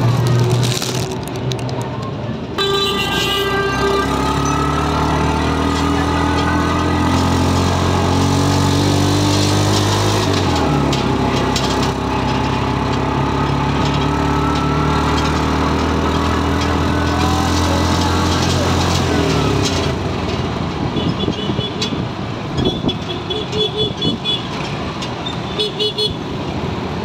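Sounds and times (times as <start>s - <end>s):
vehicle engine running: 3.3s - 25.2s.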